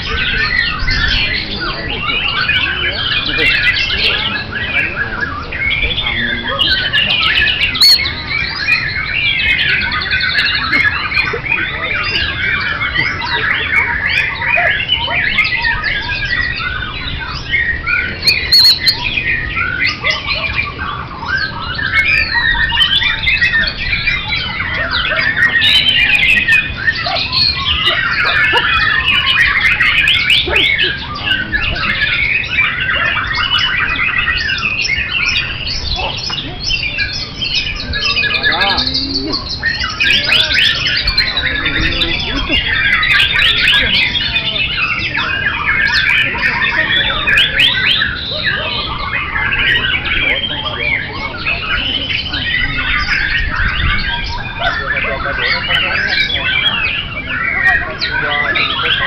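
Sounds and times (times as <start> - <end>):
songbirds chorus singing: 0.0 - 59.0.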